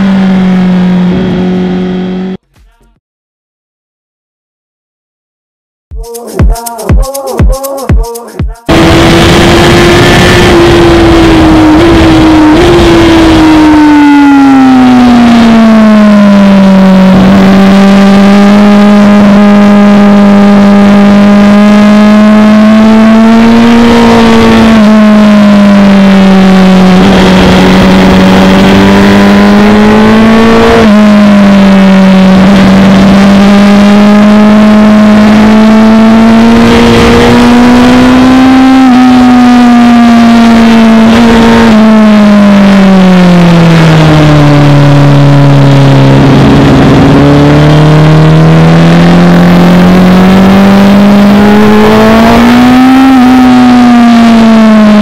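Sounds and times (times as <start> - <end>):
motorcycle engine at speed: 0.0 - 2.5, 8.7 - 55.0.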